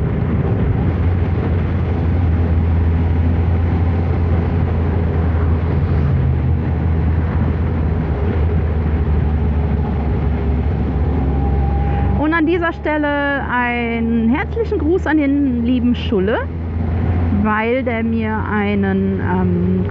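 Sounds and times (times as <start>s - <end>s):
motorcycle engine cruising: 0.0s - 19.9s
wind and road noise: 0.0s - 19.9s.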